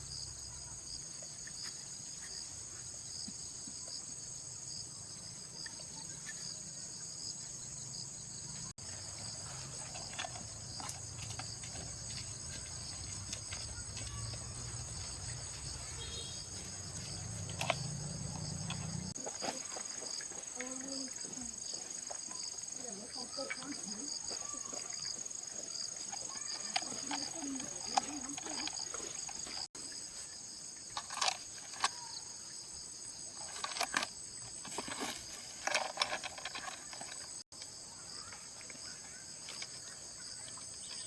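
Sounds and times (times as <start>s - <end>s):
insects chirping chorus: 0.0s - 41.0s.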